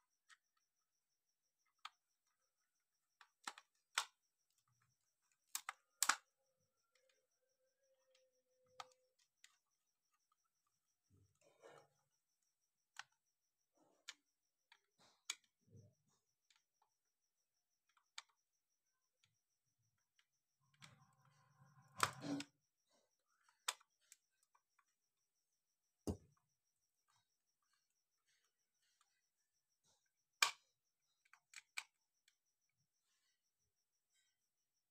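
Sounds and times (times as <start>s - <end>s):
plastic parts clicking and knocking: 1.6s - 7.4s, 8.0s - 25.0s, 25.9s - 32.5s.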